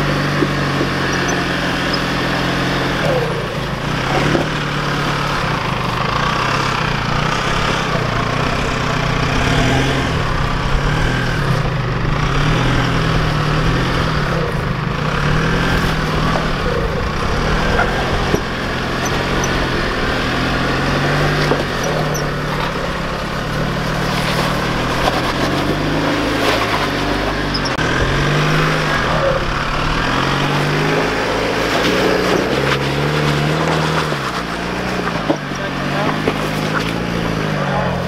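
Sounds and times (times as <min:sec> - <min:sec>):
engine revving under load: 0:00.0 - 0:38.0.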